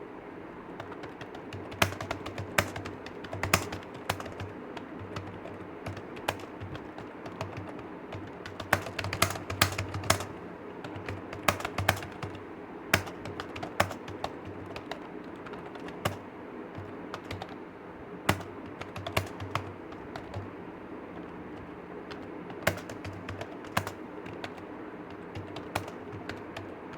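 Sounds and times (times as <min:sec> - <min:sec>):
steady low hum: 0:00.0 - 0:26.9
computer keyboard typing: 0:00.8 - 0:17.6, 0:18.3 - 0:26.9.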